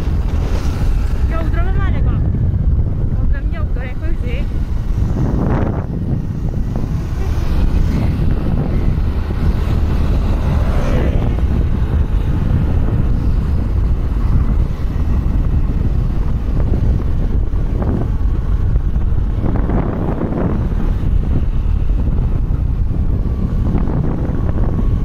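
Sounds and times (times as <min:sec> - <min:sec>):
vehicle road and engine noise: 0:00.0 - 0:25.0
wind buffeting microphone: 0:00.0 - 0:25.0.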